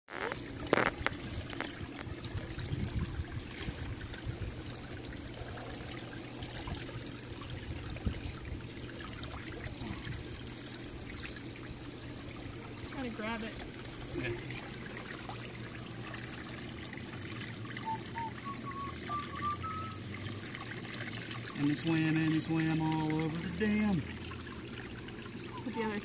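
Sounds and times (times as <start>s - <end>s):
water pouring into tub: 0.1s - 26.0s.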